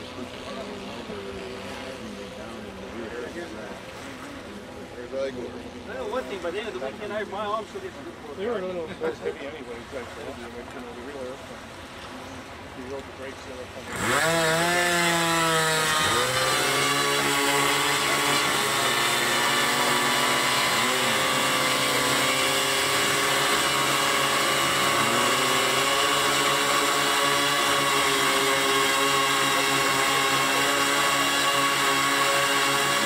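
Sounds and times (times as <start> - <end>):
model aircraft engines buzzing: 0.0 - 9.9, 11.0 - 33.0.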